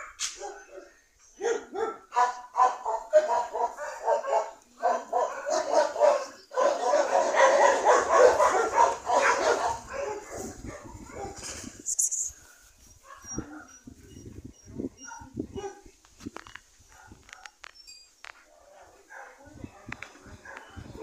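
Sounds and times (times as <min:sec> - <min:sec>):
dog barking and yelping: 0:00.0 - 0:11.6, 0:13.0 - 0:15.9, 0:18.6 - 0:21.0.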